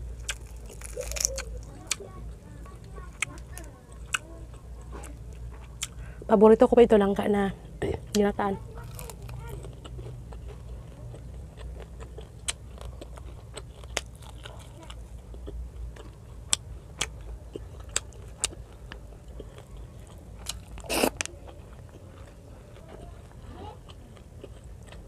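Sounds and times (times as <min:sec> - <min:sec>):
chewing and mouth sounds: 0:00.0 - 0:06.1, 0:08.1 - 0:25.0.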